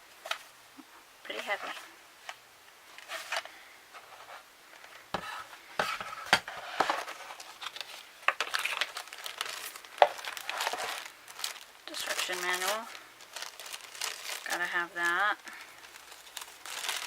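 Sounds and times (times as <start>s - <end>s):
packaging rustling and crinkling: 1.3s - 17.0s.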